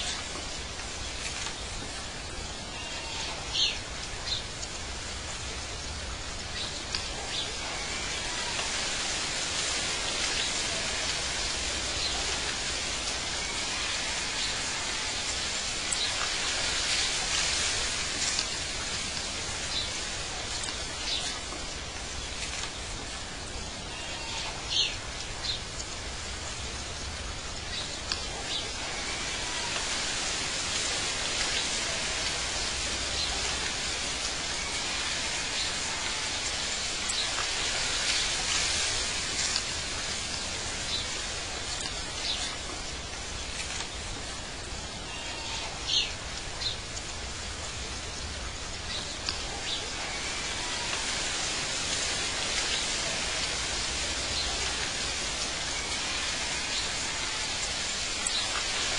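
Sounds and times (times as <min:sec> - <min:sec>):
hissing outdoor ambience: 0:00.0 - 0:58.9.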